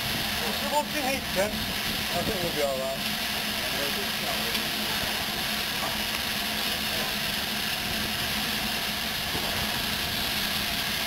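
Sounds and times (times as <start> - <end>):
steam hissing: 0.0 - 11.0.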